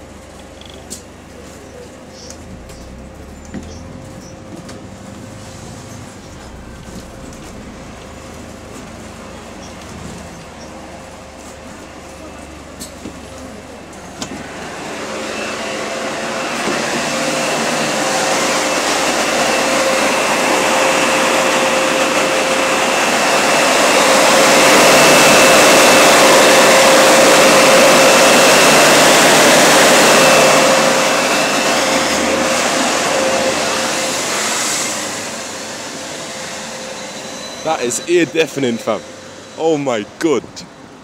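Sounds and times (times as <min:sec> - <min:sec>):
cooling fans rushing air: 0:00.0 - 0:41.0
steady fan whine: 0:00.0 - 0:41.0.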